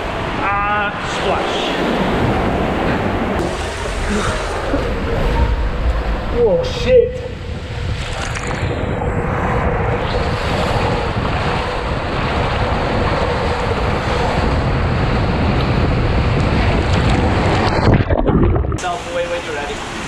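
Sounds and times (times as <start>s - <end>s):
water rushing through slide tube: 3.3s - 20.0s.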